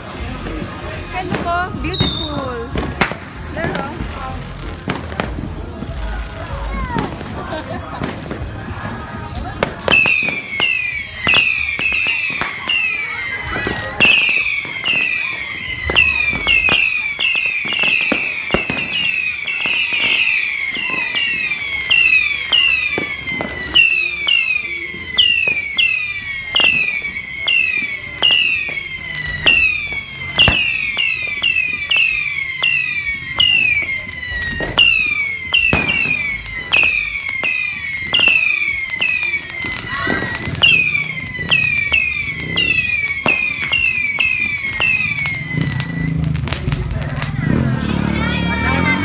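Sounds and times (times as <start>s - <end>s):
firework pops: 0.0s - 6.2s, 6.8s - 47.6s
whistling fireworks: 0.0s - 49.0s.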